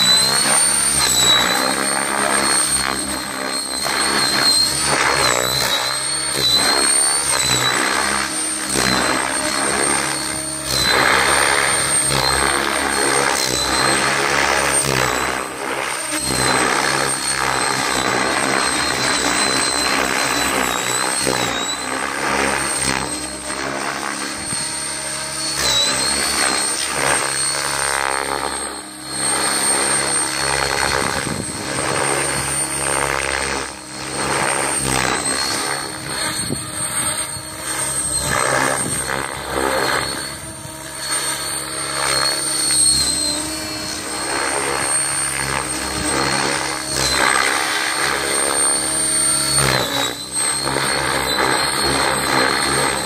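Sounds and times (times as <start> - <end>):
rc helicopter motor whine: 0.0 - 53.0
rotor blades buzzing: 0.0 - 53.0.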